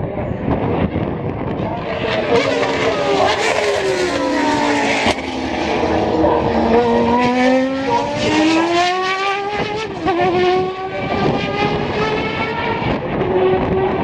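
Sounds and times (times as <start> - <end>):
racing engine at high revs: 0.0 - 14.0.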